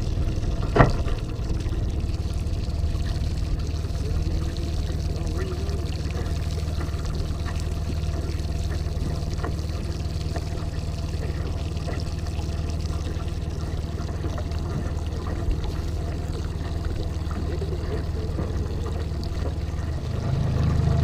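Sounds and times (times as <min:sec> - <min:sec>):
boat motor humming: 0:00.0 - 0:21.0
water splashing against hull: 0:00.0 - 0:21.0.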